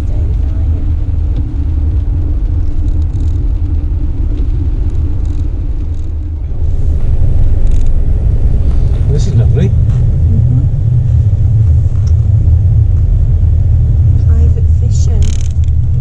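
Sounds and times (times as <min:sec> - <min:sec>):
van engine and tyres rumbling: 0:00.0 - 0:16.0.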